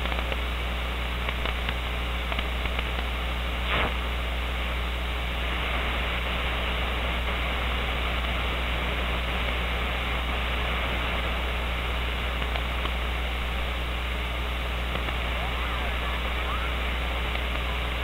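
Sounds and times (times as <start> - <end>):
radio static hiss: 0.0 - 18.0
steady low hum: 0.0 - 18.0.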